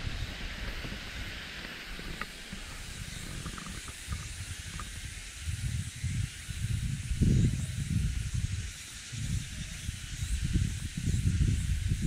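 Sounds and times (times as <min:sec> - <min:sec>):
high hiss of forest ambience: 0:00.0 - 0:12.0
low rumbling on microphone: 0:00.0 - 0:12.0.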